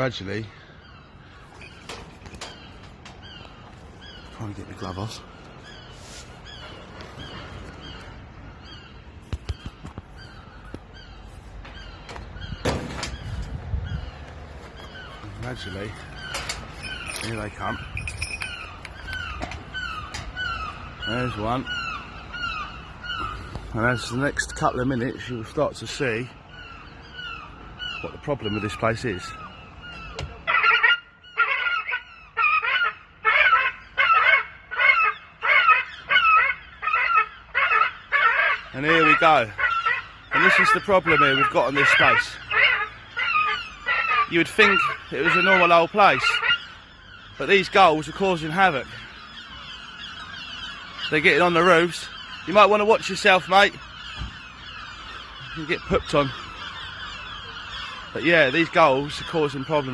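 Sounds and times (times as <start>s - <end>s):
gulls giving alarm calls: 0.0s - 59.9s.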